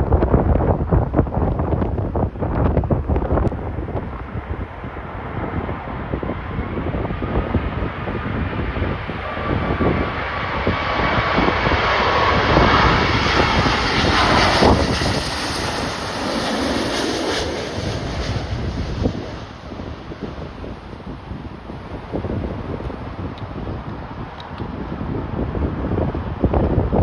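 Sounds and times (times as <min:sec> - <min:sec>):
wind buffeting microphone: 0:00.0 - 0:27.0
jet airliner passing: 0:02.0 - 0:27.0.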